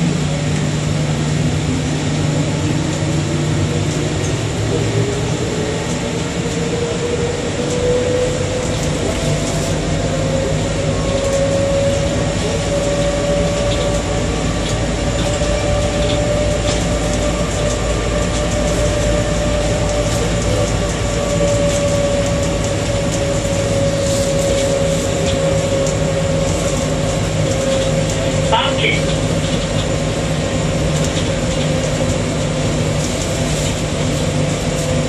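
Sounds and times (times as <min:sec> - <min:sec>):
train motor whine: 0:00.0 - 0:35.0
train running rumble: 0:00.0 - 0:35.0.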